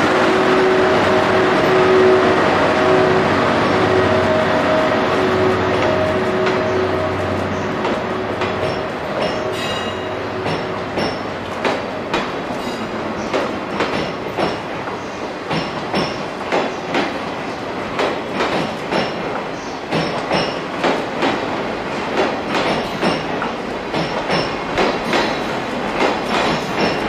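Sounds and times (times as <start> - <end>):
train rumble: 0.0 - 27.0
train wheels clacking over rail joints: 0.0 - 27.0.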